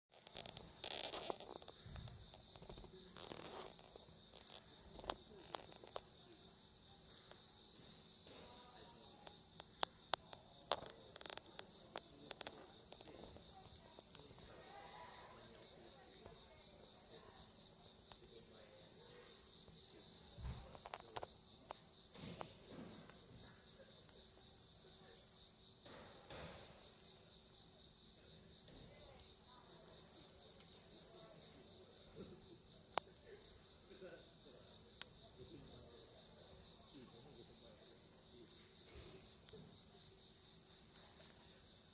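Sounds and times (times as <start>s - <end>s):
insects chirring: 0.1s - 41.9s.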